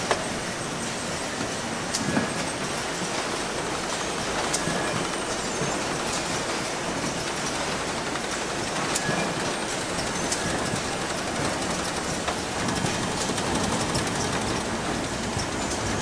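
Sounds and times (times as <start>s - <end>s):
factory machinery clattering: 0.0s - 16.0s.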